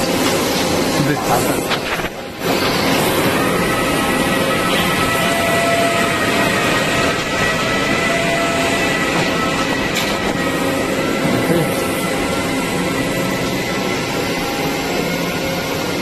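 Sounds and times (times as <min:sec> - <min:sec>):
industrial machine running: 0:00.0 - 0:16.0.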